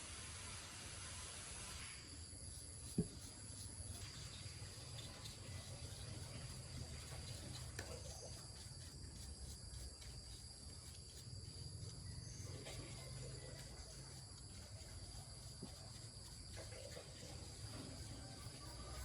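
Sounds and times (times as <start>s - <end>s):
insects chirring: 2.0s - 19.0s.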